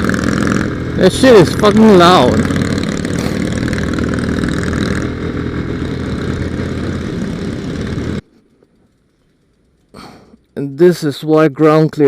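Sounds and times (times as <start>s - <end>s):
motorcycle engine running: 0.0s - 11.0s
wind and road noise: 0.0s - 12.0s.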